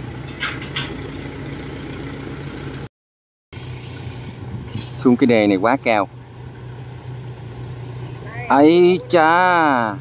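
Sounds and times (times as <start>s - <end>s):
diesel engine running: 0.0s - 2.9s, 3.6s - 10.0s.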